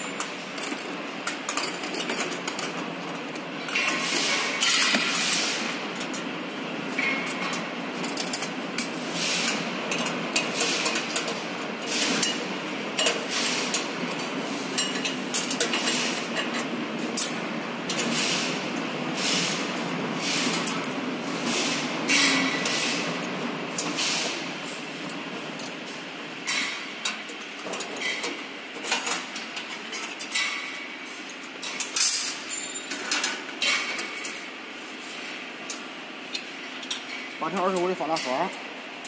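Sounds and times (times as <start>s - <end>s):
workshop noise: 0.0s - 39.0s.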